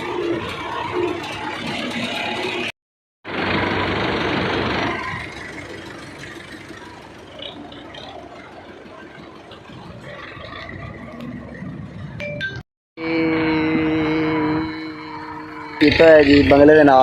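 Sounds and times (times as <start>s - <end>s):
tractor engine running: 0.0s - 12.6s, 13.8s - 17.0s.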